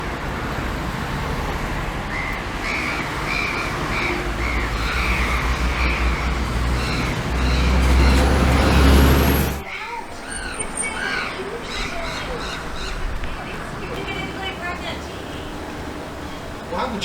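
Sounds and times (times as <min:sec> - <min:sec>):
bird calling: 0:02.0 - 0:16.6.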